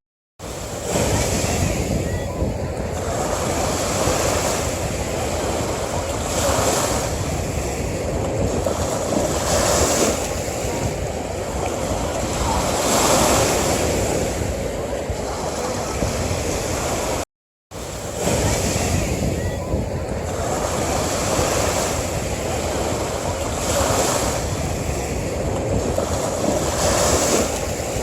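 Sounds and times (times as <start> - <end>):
ocean surf breaking: 0.4 - 17.2, 17.8 - 28.0.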